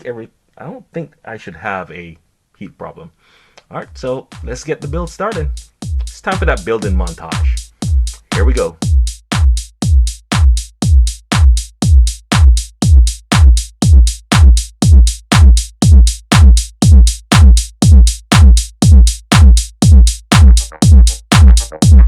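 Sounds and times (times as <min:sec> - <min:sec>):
booming drum-machine kick: 0:03.9 - 0:22.0
electronic dance music: 0:03.9 - 0:22.0.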